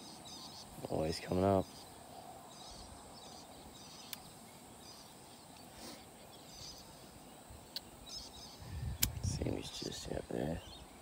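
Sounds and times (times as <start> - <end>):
bird calls: 0.0 - 11.0
insect drone: 0.0 - 11.0.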